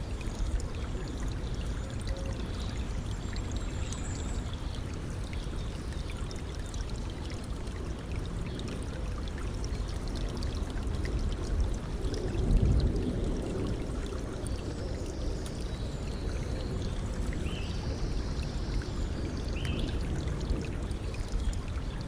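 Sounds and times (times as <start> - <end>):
stream flowing and trickling: 0.0 - 22.0.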